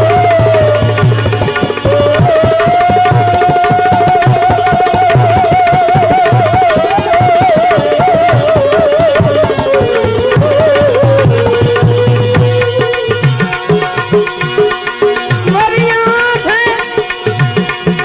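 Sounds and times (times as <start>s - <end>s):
steady hand drum rhythm: 0.0s - 18.0s.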